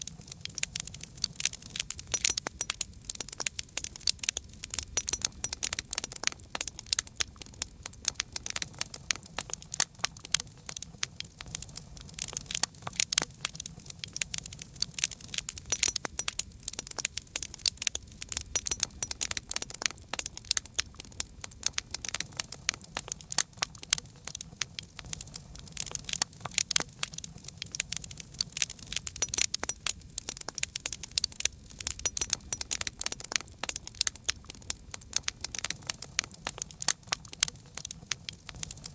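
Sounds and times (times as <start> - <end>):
low rumble of burning: 0.0 - 38.9
wood fire crackling: 0.0 - 38.9.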